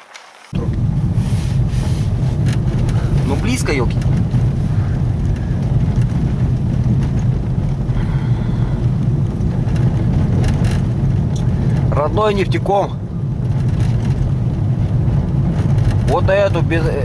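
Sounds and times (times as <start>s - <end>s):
car engine and tyres droning: 0.0s - 17.0s.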